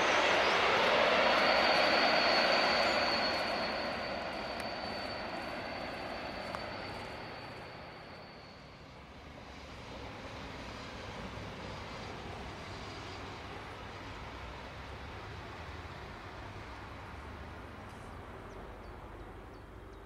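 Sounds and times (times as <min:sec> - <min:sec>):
steady high whine: 0:00.0 - 0:17.2
distant train rumble: 0:00.0 - 0:20.0
passing train running noise: 0:00.0 - 0:20.0.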